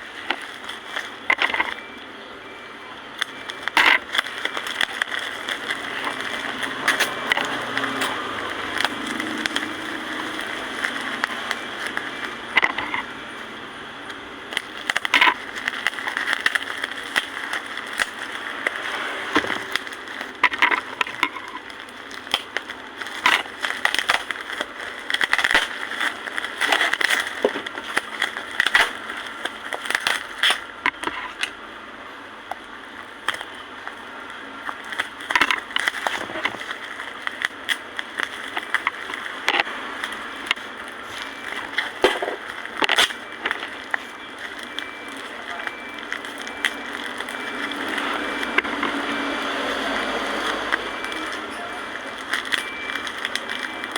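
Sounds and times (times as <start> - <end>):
packaging crinkling: 0.0 - 2.3, 2.9 - 53.9.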